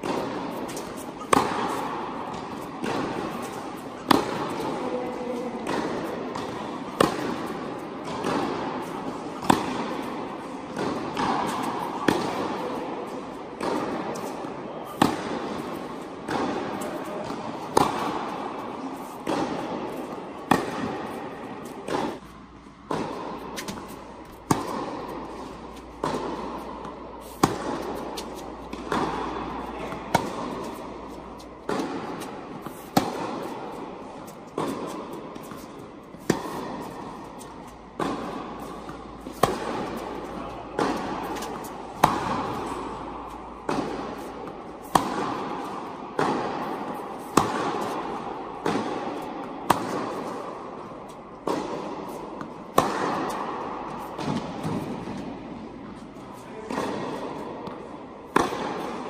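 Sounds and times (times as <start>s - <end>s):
racket striking tennis ball: 0.0s - 59.0s
tennis ball bouncing: 0.0s - 59.0s.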